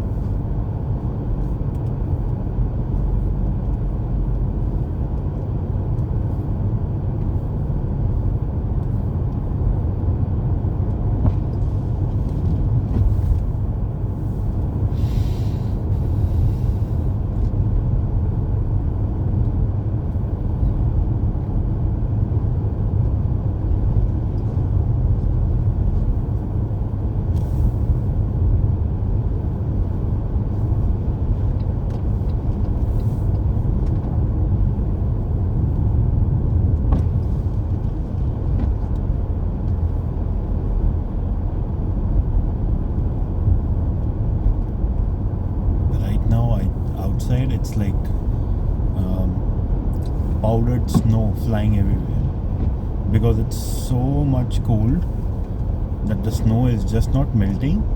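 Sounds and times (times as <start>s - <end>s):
car engine and tyres rumbling: 0.0s - 57.9s.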